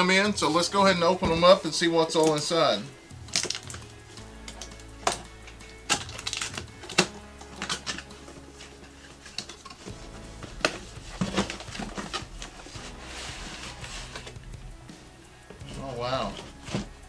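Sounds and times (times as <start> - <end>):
quiet background music: 0.0 - 17.0
cardboard packaging rustling: 0.1 - 14.4, 15.6 - 17.0.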